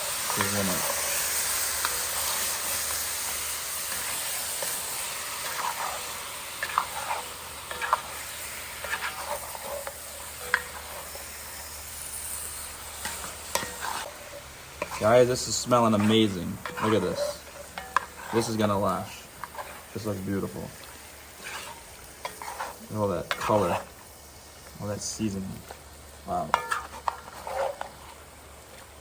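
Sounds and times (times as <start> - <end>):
gizzards sizzling in a pot: 0.0 - 29.0.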